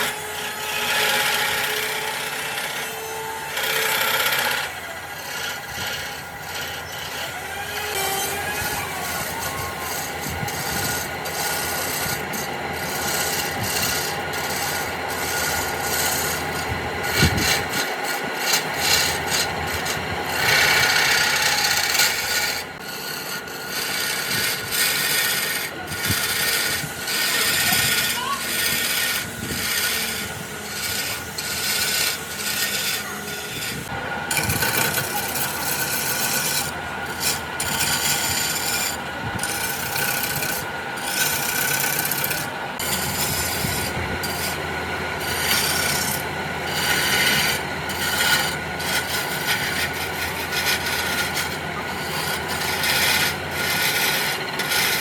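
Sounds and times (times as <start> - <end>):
steady hum: 0.0 - 55.0
wood rubbing scrape: 0.0 - 55.0.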